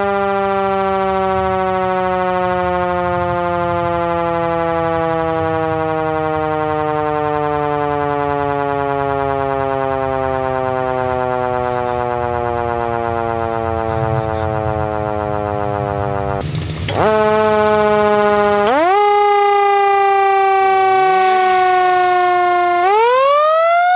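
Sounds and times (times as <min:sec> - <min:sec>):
raspy siren tone sweeping up: 0:00.0 - 0:16.4, 0:17.0 - 0:23.9
siren with falling pitch: 0:00.0 - 0:23.9.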